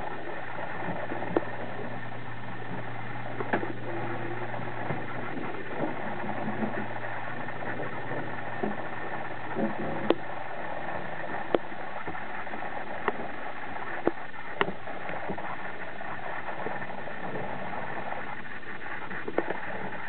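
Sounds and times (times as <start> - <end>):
hiss-like background noise: 0.0 - 20.0.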